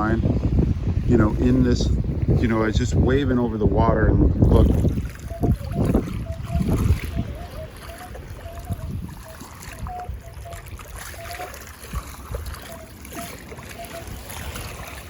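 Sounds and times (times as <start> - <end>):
wind rumble: 0.0 - 15.0
shallow water sloshing: 0.9 - 15.0.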